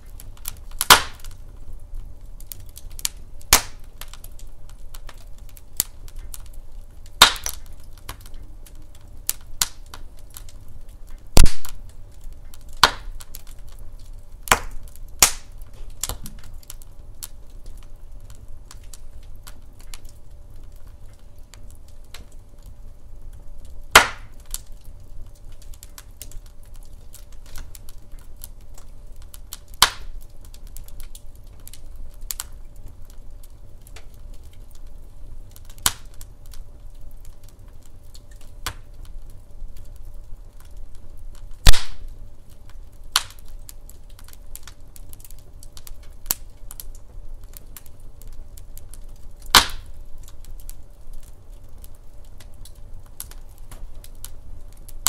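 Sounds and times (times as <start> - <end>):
burning logs popping: 0.0 - 55.0
wood fire crackling: 0.0 - 55.0.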